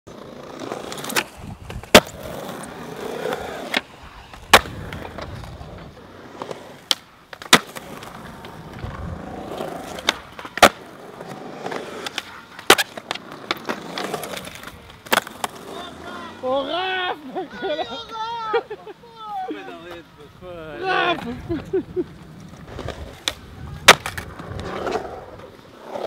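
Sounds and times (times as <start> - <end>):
skateboard clacking: 0.1 - 17.0, 20.8 - 26.0
skateboard wheels rolling on concrete: 0.1 - 26.0.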